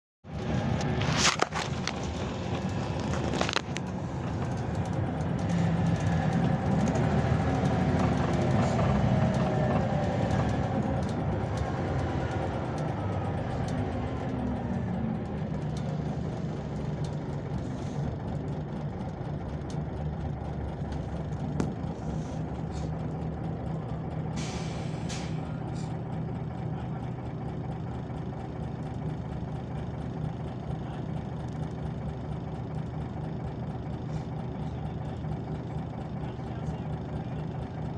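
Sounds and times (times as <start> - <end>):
bus engine running: 0.2 - 37.9.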